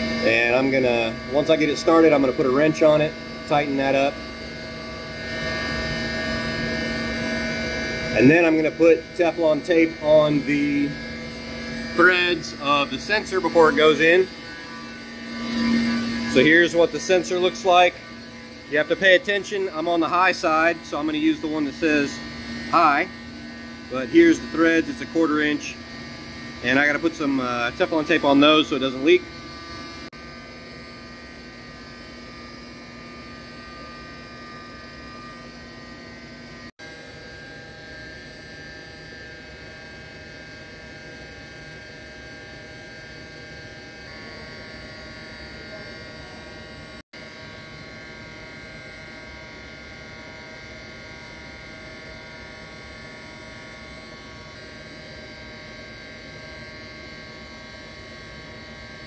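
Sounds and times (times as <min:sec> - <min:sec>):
machinery hum with constant tones: 0:00.0 - 0:59.0.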